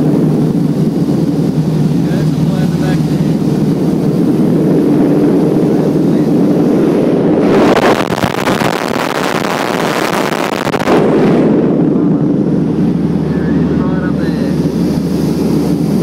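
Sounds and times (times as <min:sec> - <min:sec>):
piston engine droning: 0:00.0 - 0:16.0.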